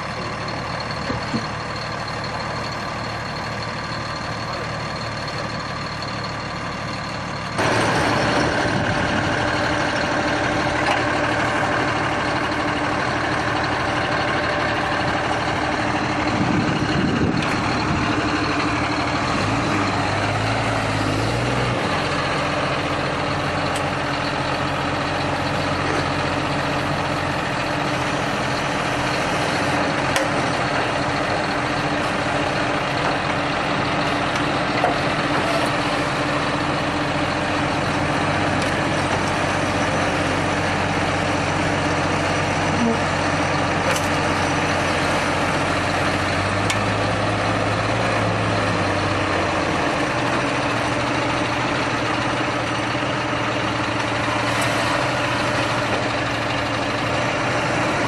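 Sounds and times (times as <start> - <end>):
heavy vehicle engine running: 0.0 - 58.0.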